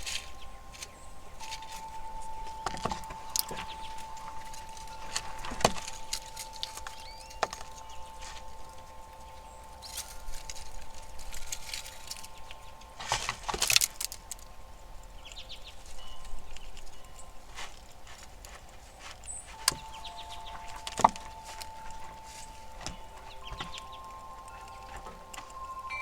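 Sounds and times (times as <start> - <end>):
squirrel claws scratching and clicking: 0.0 - 26.0.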